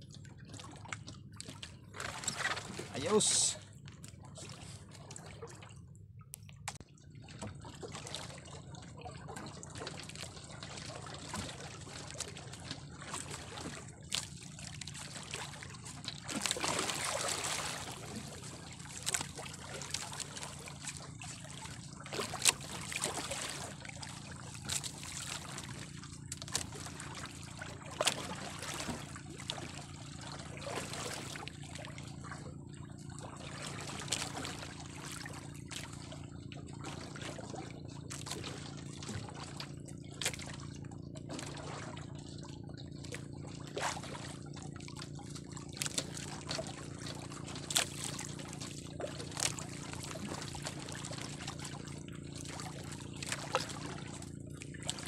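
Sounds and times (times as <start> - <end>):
water lapping against boat: 0.0 - 55.0.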